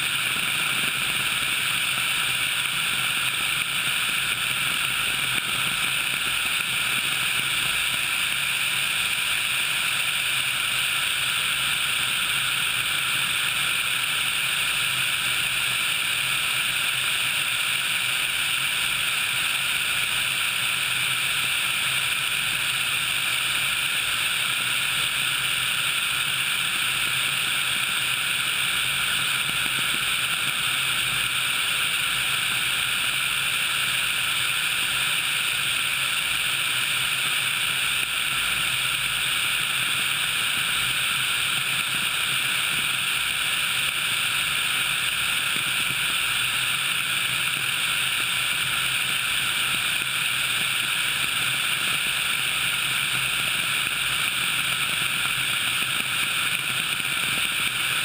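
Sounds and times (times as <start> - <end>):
helicopter airflow and turbine noise: 0.0 - 58.0.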